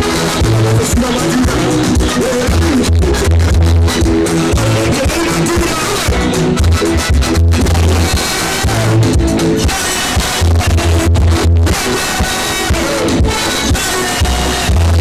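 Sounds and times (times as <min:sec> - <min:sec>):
heavy repeating bass line: 0:00.0 - 0:15.0
live music over pa system: 0:00.0 - 0:15.0.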